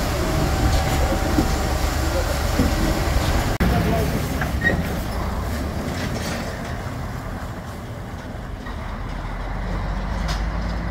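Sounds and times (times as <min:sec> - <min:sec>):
diesel truck engine rumbling: 0:00.0 - 0:10.9.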